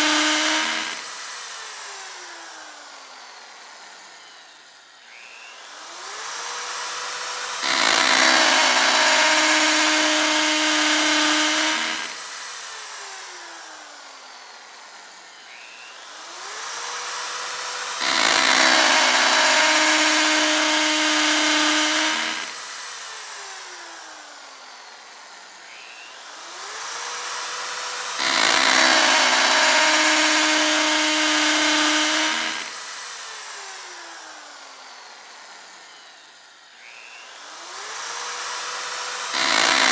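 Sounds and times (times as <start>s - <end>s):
drill grinding into material: 0.0s - 39.9s
electric drill whining: 0.0s - 39.9s.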